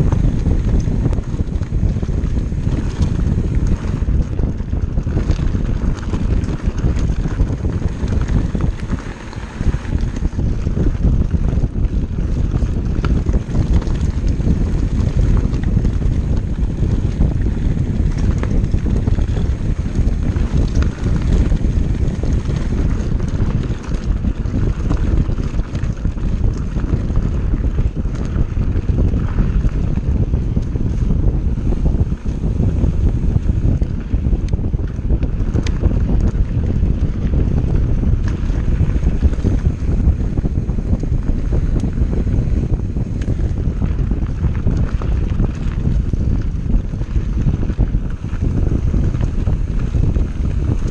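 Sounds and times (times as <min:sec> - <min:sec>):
mountain bike rattling on rocky trail: 0:00.0 - 0:50.9
wind buffeting microphone: 0:00.0 - 0:50.9.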